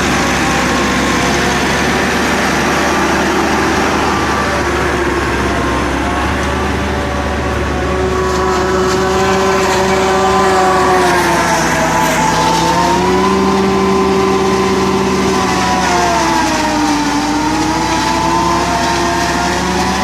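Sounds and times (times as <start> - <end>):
farm machinery engine running: 0.0 - 20.0.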